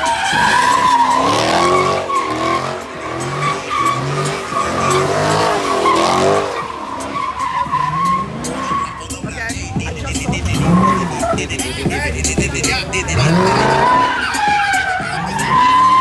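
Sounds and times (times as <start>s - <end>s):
car engine revving: 0.0s - 16.0s
tyre squealing: 0.0s - 16.0s.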